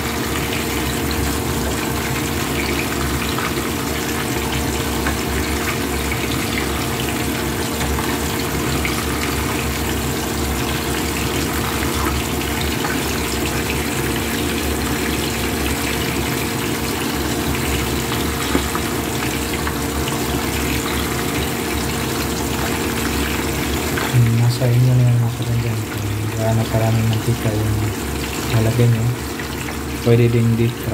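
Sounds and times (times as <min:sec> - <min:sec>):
steady low hum: 0:00.0 - 0:29.2
hot oil sizzling: 0:00.0 - 0:30.9.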